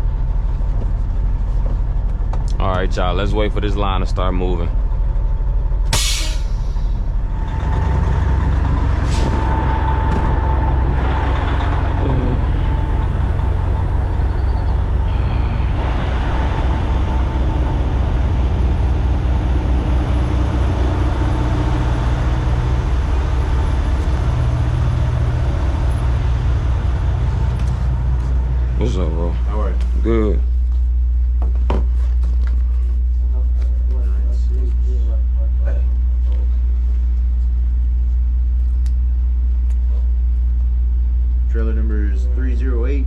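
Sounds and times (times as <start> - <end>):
diesel truck engine running: 0.0 - 43.0.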